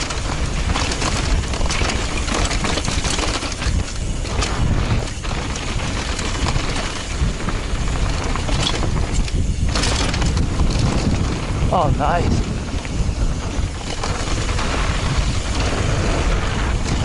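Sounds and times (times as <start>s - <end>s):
bike rattling clicks: 0.0s - 17.0s
tyres on dirt: 0.0s - 17.0s
wind noise on microphone: 0.0s - 17.0s.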